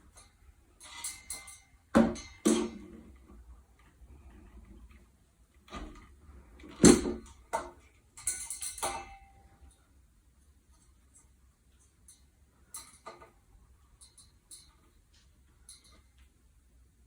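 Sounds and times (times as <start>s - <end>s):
rustles and clicks of handled hardware: 0.0s - 16.7s.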